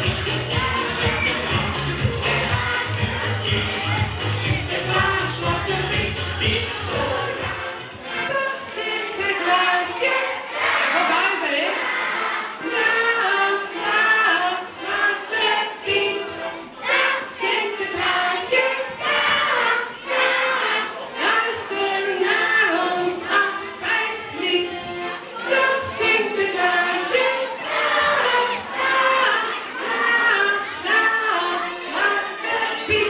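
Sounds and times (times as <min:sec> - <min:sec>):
children singing together: 0:00.0 - 0:33.0
music: 0:00.0 - 0:33.0.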